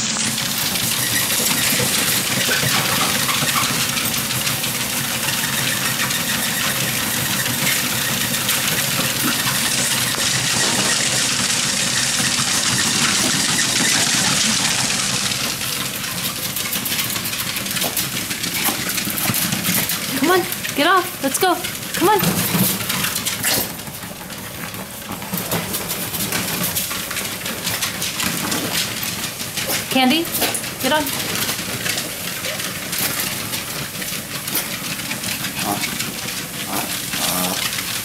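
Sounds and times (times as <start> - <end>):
treadmill motor and belt running: 0.0 - 38.0
dog paws pattering on belt: 0.9 - 38.0.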